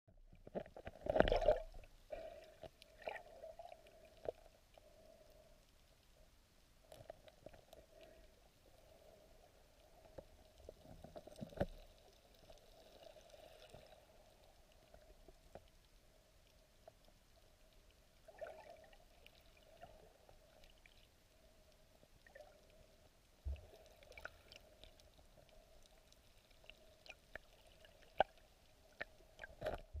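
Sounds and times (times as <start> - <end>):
underwater clicks and ticks: 0.3 - 6.2, 6.8 - 30.0
faint underwater hum: 0.4 - 30.0.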